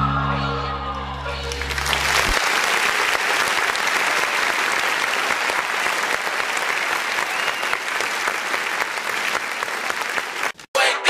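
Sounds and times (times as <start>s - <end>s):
audience applauding: 1.3s - 10.7s.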